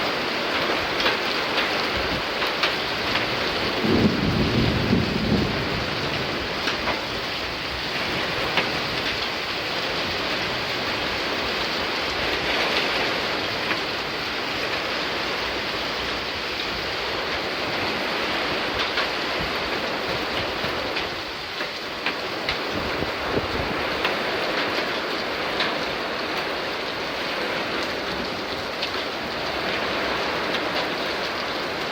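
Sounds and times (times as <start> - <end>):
heavy rain hissing: 0.0 - 31.9
raindrops ticking on surfaces: 0.0 - 31.9.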